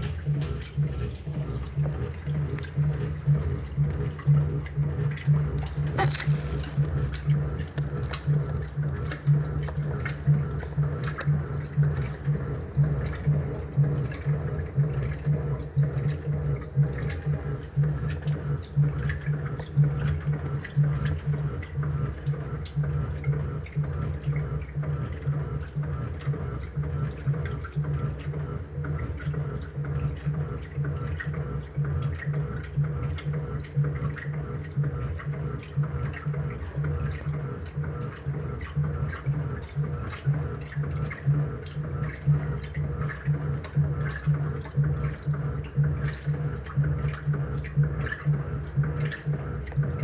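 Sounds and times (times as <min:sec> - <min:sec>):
washing machine motor hum: 0:00.0 - 0:50.0
water sloshing in tub: 0:00.0 - 0:50.0.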